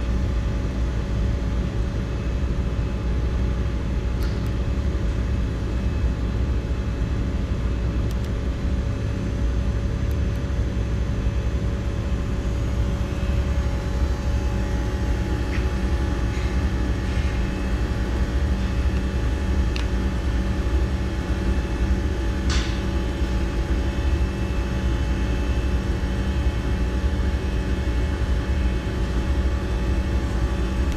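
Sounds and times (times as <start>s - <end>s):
machine motor hum and whine: 0.0s - 30.9s.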